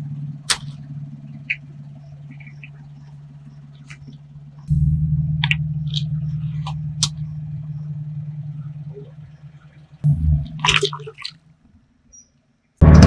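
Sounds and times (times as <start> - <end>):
car engine low hum: 0.0 - 12.1.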